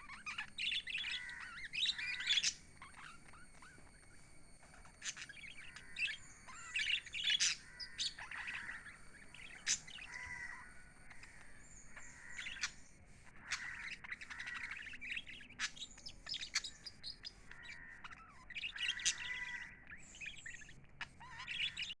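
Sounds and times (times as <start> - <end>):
parrots chirping and chattering: 0.0 - 22.0.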